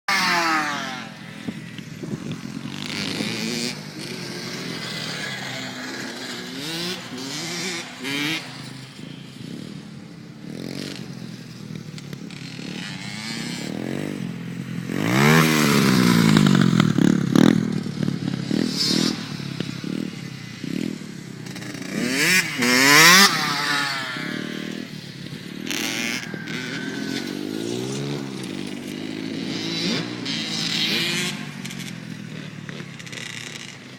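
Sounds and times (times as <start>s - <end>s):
dirt bike engines revving: 0.1s - 33.9s.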